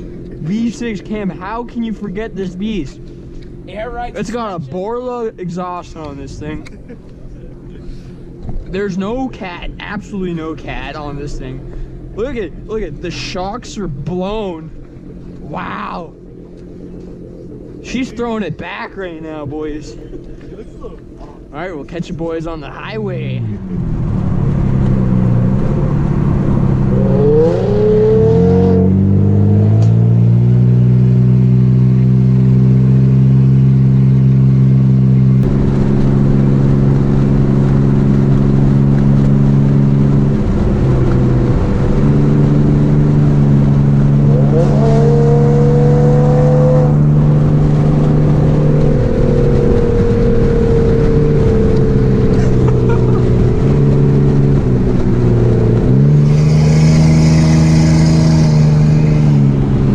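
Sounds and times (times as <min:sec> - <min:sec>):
car engine and exhaust droning: 0:00.0 - 0:59.9.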